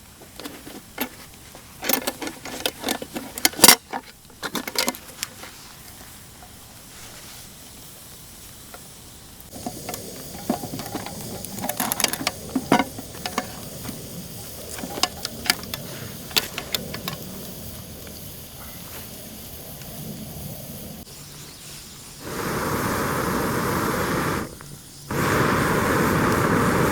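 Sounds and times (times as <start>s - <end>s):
campfire hissing: 0.0s - 26.9s
campfire crackling: 3.2s - 21.1s, 22.1s - 26.9s.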